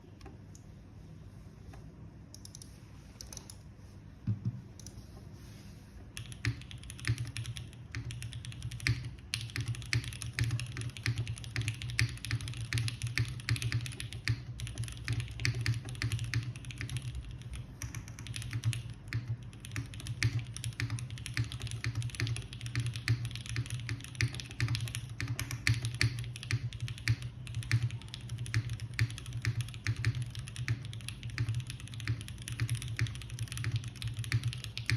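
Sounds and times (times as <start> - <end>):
mechanical keyboard typing: 6.2 - 34.9.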